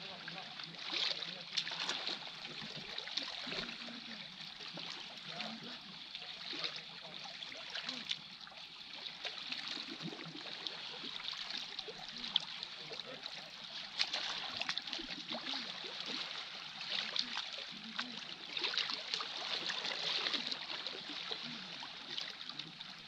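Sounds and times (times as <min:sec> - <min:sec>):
small waves lapping among boulders: 0:00.0 - 0:23.0.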